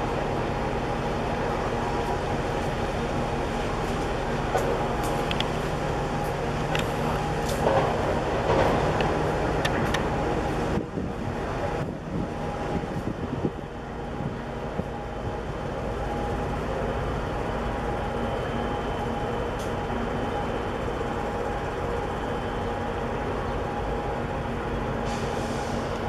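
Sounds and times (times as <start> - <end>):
ship engine droning: 0.0 - 26.0.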